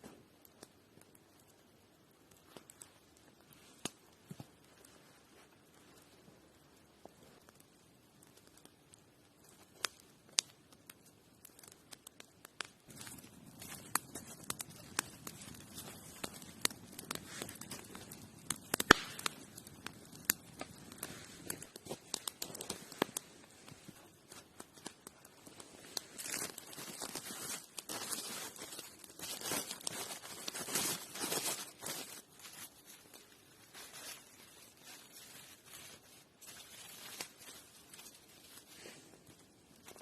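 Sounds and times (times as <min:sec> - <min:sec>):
rustling and crinkling: 0:02.4 - 0:08.7, 0:12.6 - 0:40.0.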